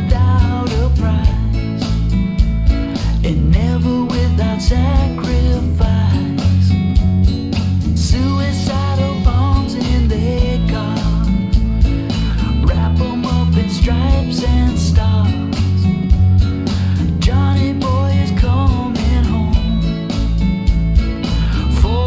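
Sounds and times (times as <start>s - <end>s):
rock song with guitar: 0.0s - 22.0s.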